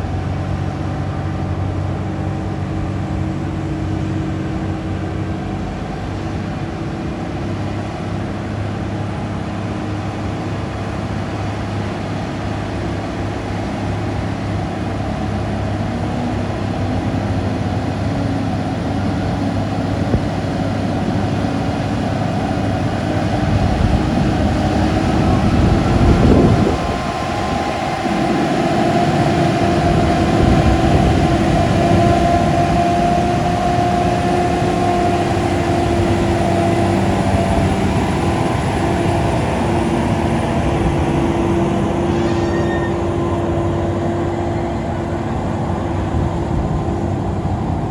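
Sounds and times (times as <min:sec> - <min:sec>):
heavy truck engine running: 0:00.0 - 0:47.9.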